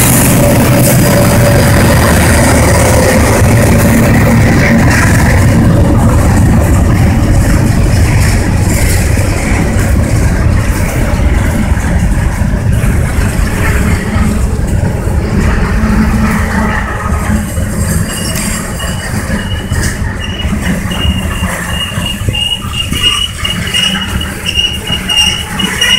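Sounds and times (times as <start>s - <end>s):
diesel locomotive rumbling past: 0.0s - 25.9s
freight cars rolling on rails: 0.0s - 25.9s.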